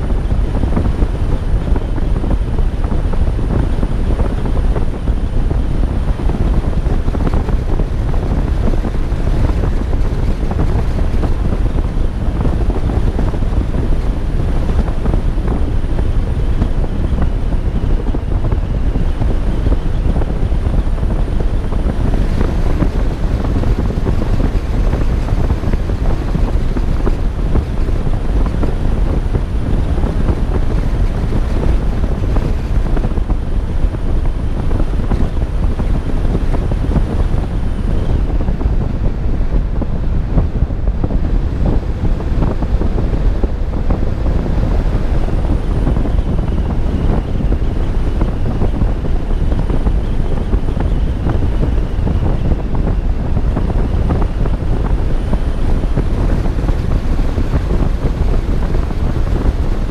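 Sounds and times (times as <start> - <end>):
road noise: 0.0 - 59.9
wind buffeting microphone: 0.0 - 59.9.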